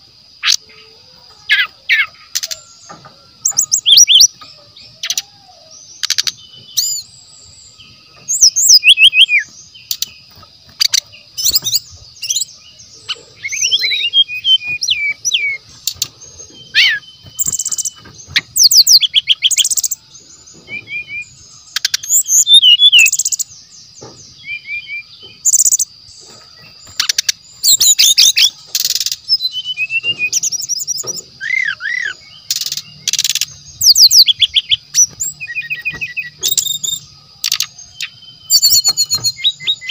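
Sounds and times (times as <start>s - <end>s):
bird singing chirps and whistles: 1.5s - 39.9s.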